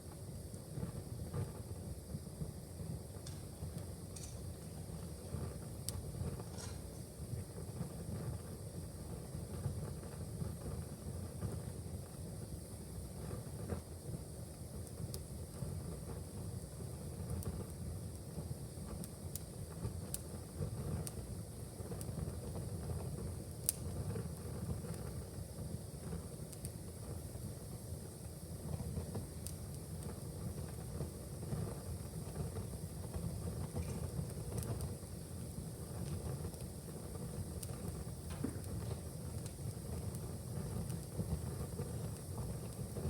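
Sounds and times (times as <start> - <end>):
fire crackling and popping: 0.0 - 43.0
fire flames rumbling: 0.0 - 43.0.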